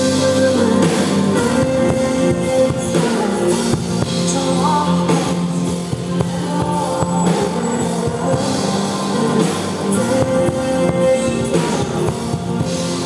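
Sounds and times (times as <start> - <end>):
drum kit beat: 0.0 - 13.0
live rock band playing: 0.0 - 13.0
sustained electric guitar: 0.0 - 13.0.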